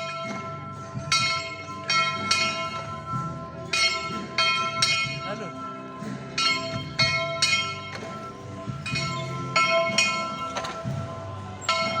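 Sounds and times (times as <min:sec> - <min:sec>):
church bell ringing: 0:00.0 - 0:00.4, 0:01.0 - 0:11.0, 0:11.6 - 0:12.0.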